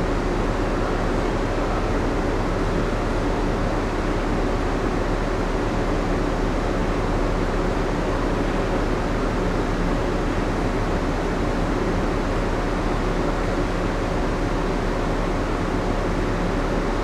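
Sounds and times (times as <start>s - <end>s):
ship machinery hum: 0.0s - 16.9s.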